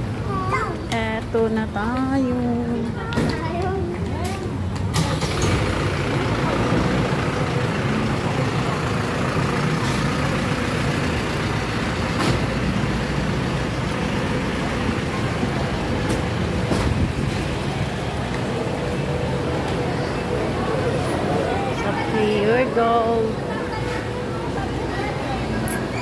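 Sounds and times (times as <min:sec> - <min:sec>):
road vehicles rumbling: 0:00.0 - 0:26.0.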